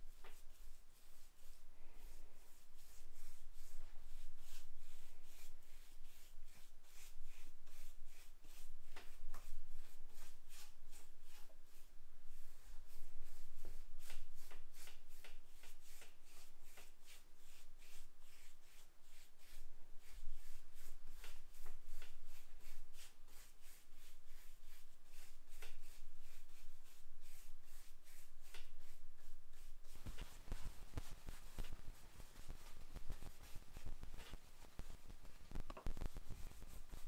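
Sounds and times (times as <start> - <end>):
paintbrush scratchy swishes: 0.1 - 37.0.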